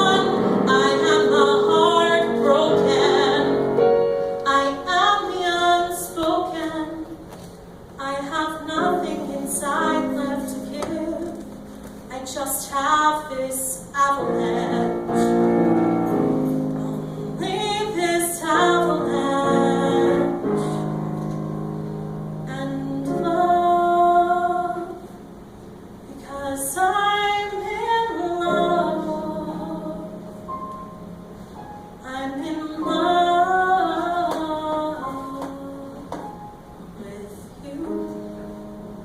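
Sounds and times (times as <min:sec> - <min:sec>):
woman singing: 0:00.0 - 0:07.4, 0:08.0 - 0:15.6, 0:16.6 - 0:20.9, 0:22.4 - 0:25.1, 0:26.1 - 0:30.4, 0:32.0 - 0:36.4, 0:37.0 - 0:38.9.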